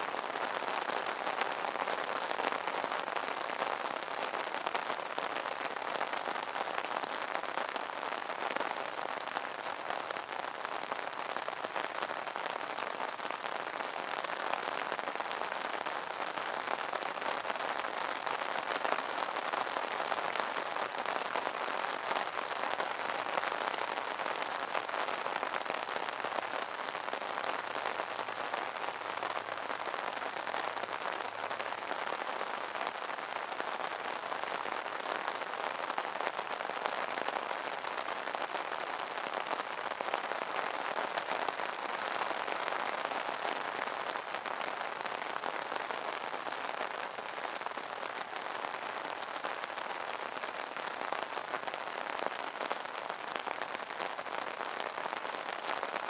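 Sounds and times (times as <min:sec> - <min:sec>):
rain drumming on an umbrella: 0:00.0 - 0:56.0.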